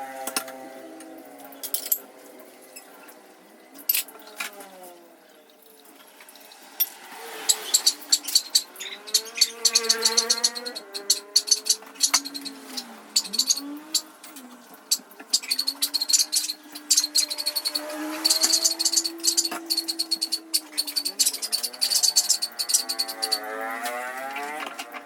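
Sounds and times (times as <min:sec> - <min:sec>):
kitchen utensils clattering: 0:00.2 - 0:04.6, 0:06.0 - 0:25.0.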